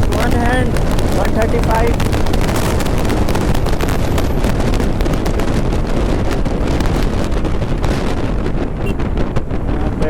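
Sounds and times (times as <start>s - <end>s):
motorcycle engine and road noise: 0.0s - 10.0s
wind buffeting microphone: 0.0s - 10.0s.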